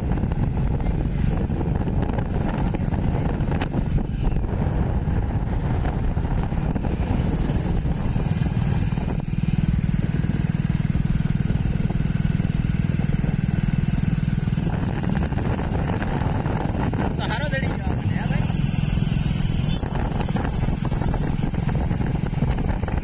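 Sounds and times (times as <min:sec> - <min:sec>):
motorcycle engine running: 0:00.0 - 0:23.0
road and wind noise: 0:00.0 - 0:23.0.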